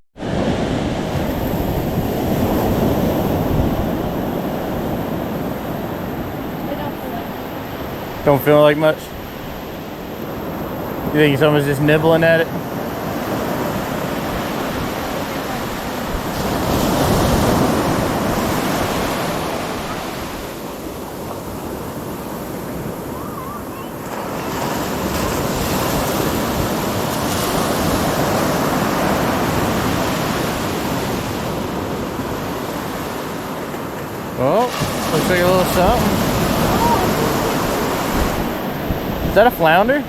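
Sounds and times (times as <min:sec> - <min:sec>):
wind rumbling on microphone: 0:00.2 - 0:08.3, 0:12.5 - 0:40.0
ocean waves breaking: 0:00.2 - 0:40.0.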